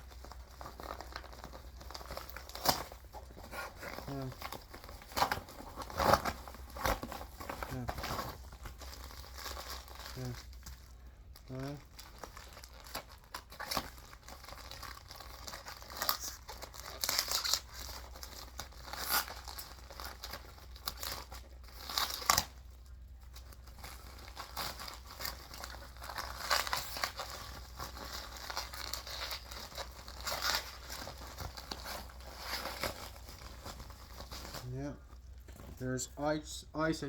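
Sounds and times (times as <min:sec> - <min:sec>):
packaging tearing and crinkling: 0:00.0 - 0:35.7.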